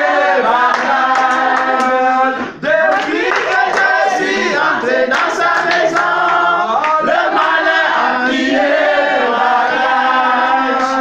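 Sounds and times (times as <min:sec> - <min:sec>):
group singing a worship song: 0:00.0 - 0:11.0.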